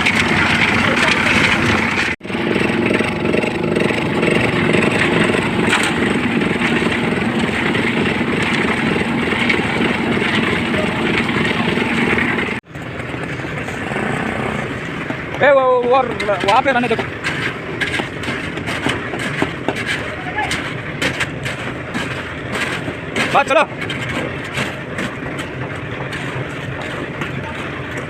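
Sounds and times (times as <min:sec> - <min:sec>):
concrete mixer engine drone: 0:00.0 - 0:28.0.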